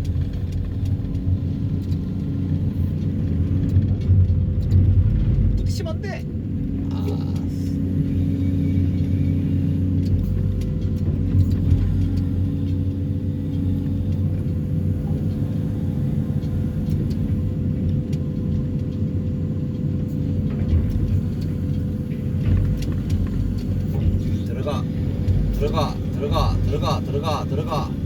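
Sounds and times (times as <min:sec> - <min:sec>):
excavator engine and hydraulics: 0:00.0 - 0:28.0.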